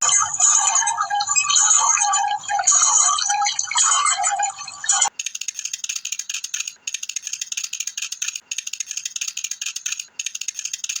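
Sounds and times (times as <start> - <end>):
rapid high-pitched rattling: 0.0 - 11.0.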